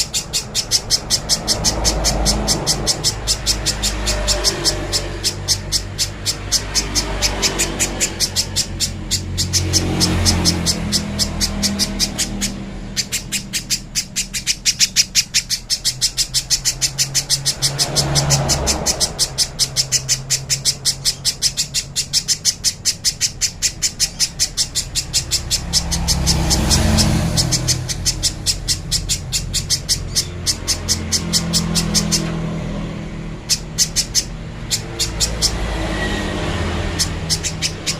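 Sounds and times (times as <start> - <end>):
bird calling sharp high chips: 0.0 - 37.9.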